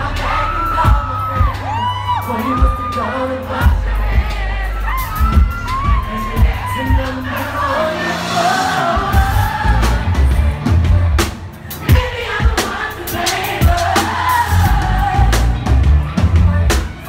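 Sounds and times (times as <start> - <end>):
woman singing into microphone: 0.0 - 15.5
band with drum beat and bass: 0.0 - 17.0.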